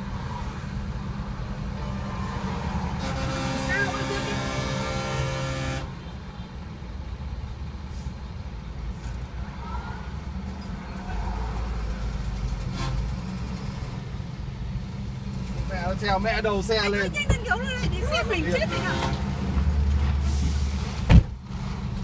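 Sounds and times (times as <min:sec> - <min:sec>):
idling vehicle engines rumble: 0:00.0 - 0:22.0.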